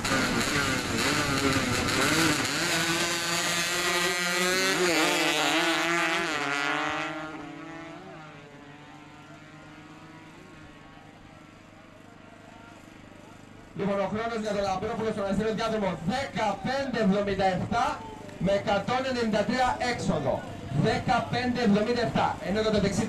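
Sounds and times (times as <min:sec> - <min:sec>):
motorcycles accelerating at full throttle: 0:00.0 - 0:23.0.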